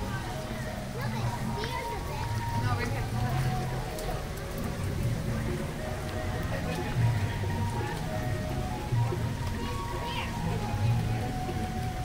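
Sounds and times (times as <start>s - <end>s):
water pattering: 0.0s - 12.0s.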